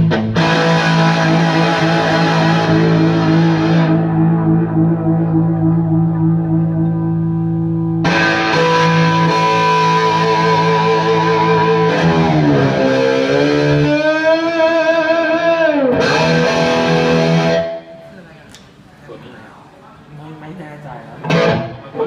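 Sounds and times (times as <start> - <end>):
overdriven electric guitar chords: 0.0 - 18.0, 21.2 - 21.8.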